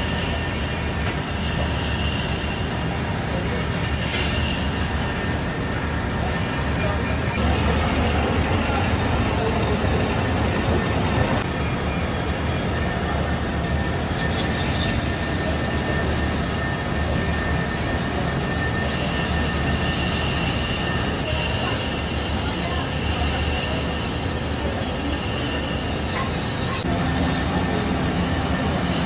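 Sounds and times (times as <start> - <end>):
factory machinery rumbling: 0.0 - 29.0.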